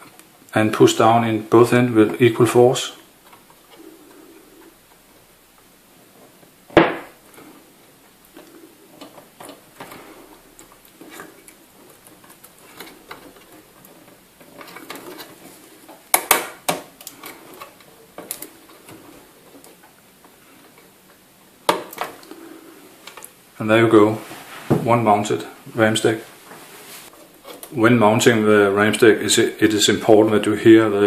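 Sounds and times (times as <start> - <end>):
faint handling noise: 0.0 - 28.4.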